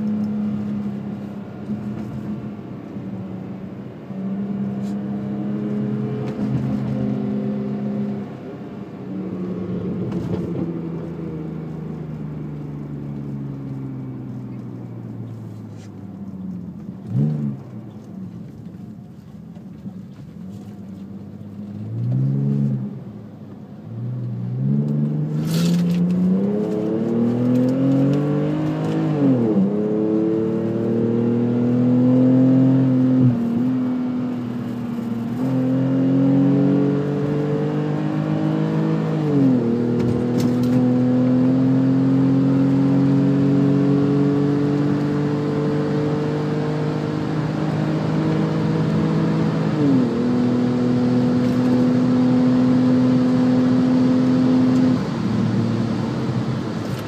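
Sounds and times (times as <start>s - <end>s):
car exhaust accelerating through gears: 0.0s - 57.0s.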